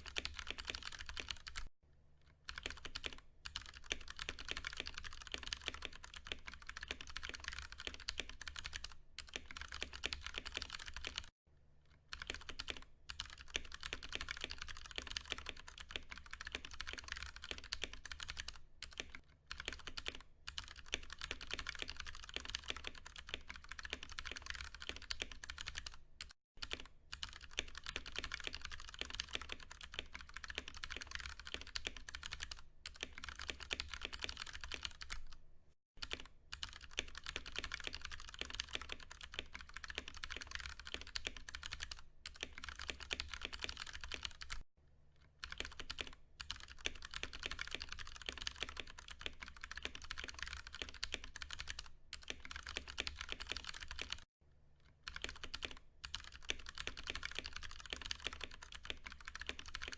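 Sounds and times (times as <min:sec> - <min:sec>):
mechanical keyboard typing: 0:00.0 - 0:01.7, 0:02.5 - 0:11.3, 0:12.1 - 0:35.4, 0:36.0 - 0:44.6, 0:45.4 - 0:54.3, 0:55.0 - 0:59.9.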